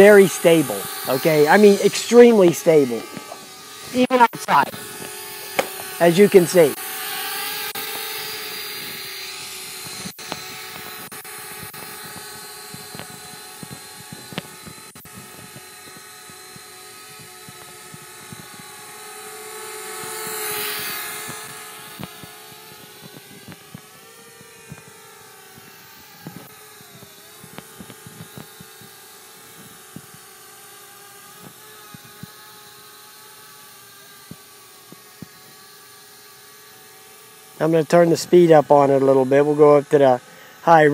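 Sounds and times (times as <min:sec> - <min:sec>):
drone propellers whining: 0:00.0 - 0:40.9.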